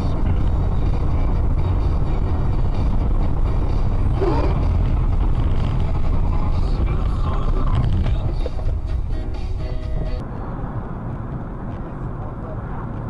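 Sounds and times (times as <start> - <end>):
car engine and tyres on highway: 0.0 - 13.0.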